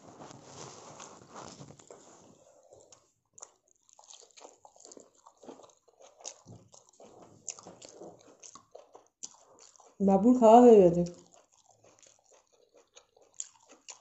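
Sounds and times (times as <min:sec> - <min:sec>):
person chewing food: 0:00.0 - 0:10.0, 0:11.0 - 0:14.0.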